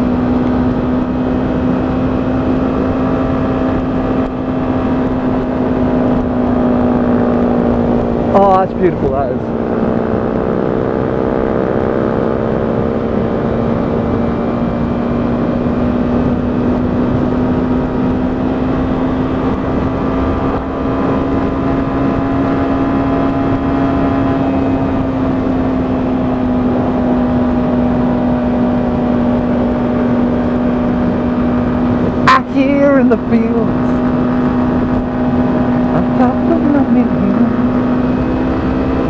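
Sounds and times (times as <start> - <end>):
motorcycle engine running: 0.0 - 39.0
wind noise: 0.0 - 39.0.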